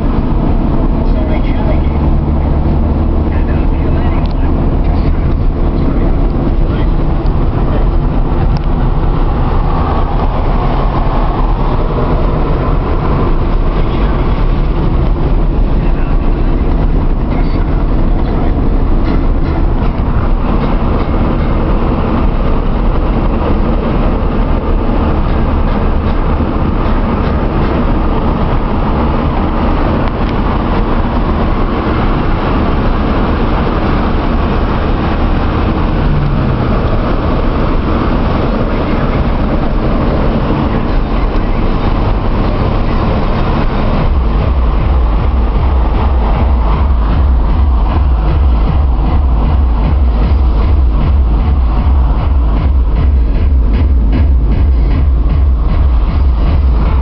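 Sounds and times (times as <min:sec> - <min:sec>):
car engine cruising: 0:00.0 - 0:57.0
low rumble: 0:00.0 - 0:57.0
wind noise: 0:00.0 - 0:57.0
tyre noise: 0:04.4 - 0:57.0.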